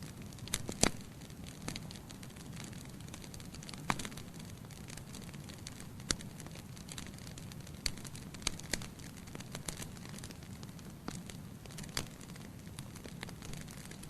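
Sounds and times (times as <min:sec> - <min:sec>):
fire flames rumbling: 0:00.0 - 0:14.0
logs crackling and popping: 0:00.0 - 0:14.0.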